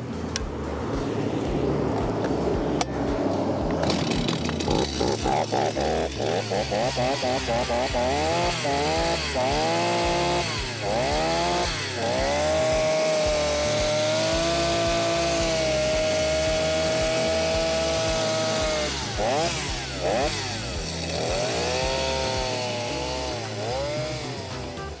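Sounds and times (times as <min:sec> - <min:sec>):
chainsaw engine revving: 0:03.7 - 0:25.0.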